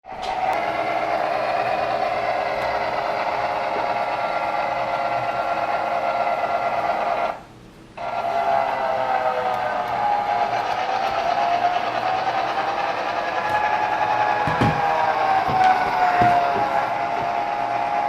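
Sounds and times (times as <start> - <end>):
model train motor whirring: 0.1 - 7.4, 8.0 - 18.0.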